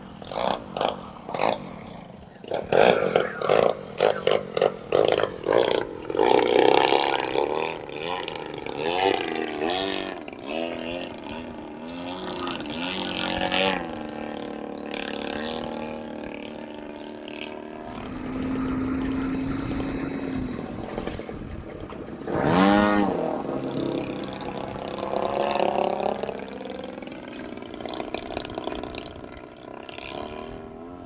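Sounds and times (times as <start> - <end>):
model plane propellers and motors: 0.0 - 31.0.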